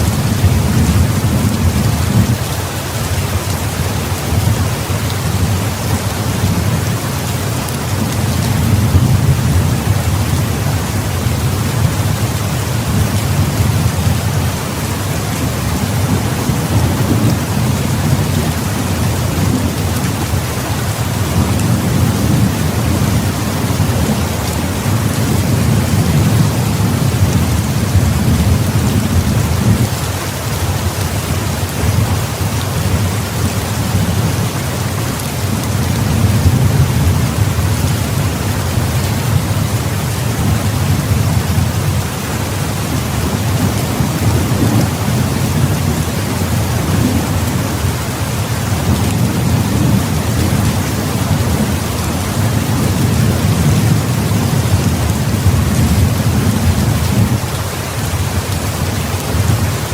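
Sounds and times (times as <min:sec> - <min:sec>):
thunder rumbling: 0:00.0 - 0:02.5, 0:03.7 - 0:30.0, 0:35.2 - 0:57.6
heavy rain hissing: 0:00.0 - 0:59.9.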